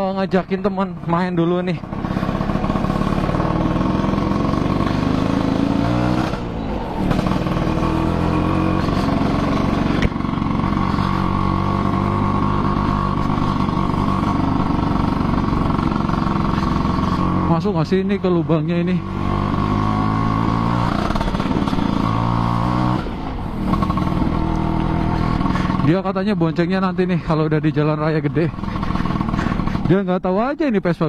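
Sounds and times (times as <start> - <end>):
two-stroke scooter engine running: 0.0 - 31.0.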